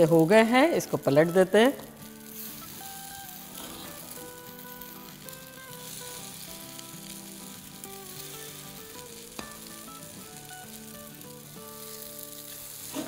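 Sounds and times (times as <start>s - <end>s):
food sizzling in a pan: 0.0s - 13.0s
soft background music: 0.0s - 13.0s.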